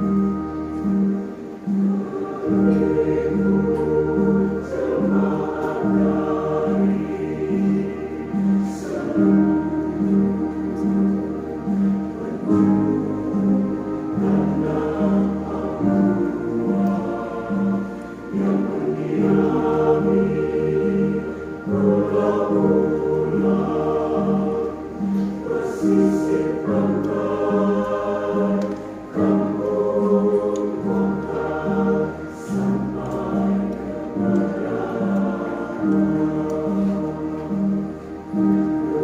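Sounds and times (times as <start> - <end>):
choir singing a hymn: 0.0 - 39.0
low accompanying notes: 0.0 - 39.0.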